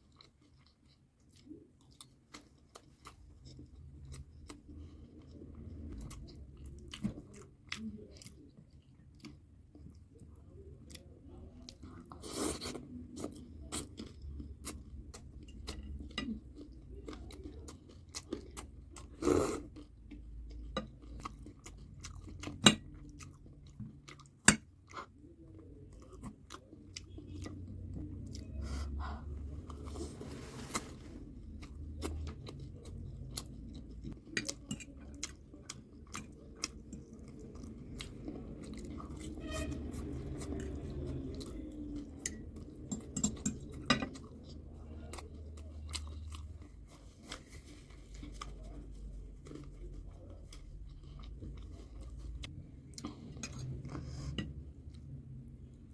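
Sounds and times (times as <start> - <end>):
chewing and crunching food: 0.0 - 55.9.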